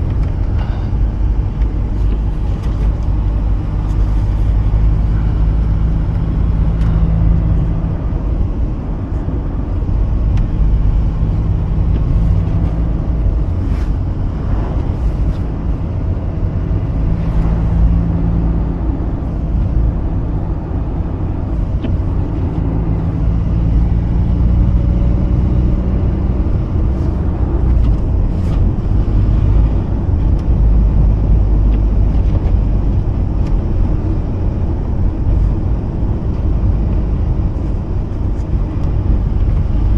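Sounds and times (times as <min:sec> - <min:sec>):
car engine humming: 0:00.0 - 0:39.9
tyre and road noise: 0:00.0 - 0:39.9.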